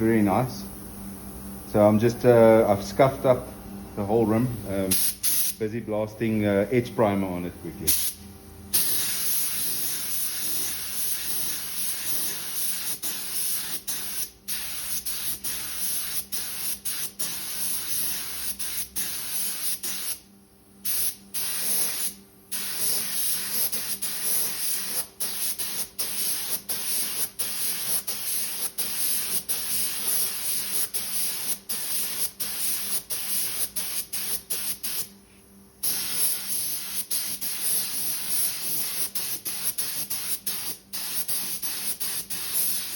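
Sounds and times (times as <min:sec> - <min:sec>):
hiss of spray paint: 0:04.8 - 0:05.6, 0:07.8 - 0:20.2, 0:20.8 - 0:35.1, 0:35.8 - 0:42.9.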